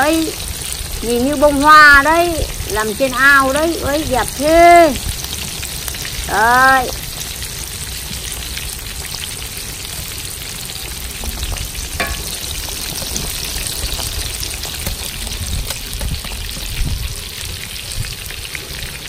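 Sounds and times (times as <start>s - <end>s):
battered food deep-frying: 0.0s - 19.0s.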